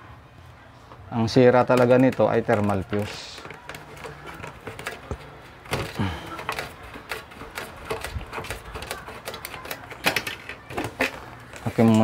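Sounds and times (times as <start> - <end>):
plastic fan housing clicks and knocks: 1.5 - 12.0.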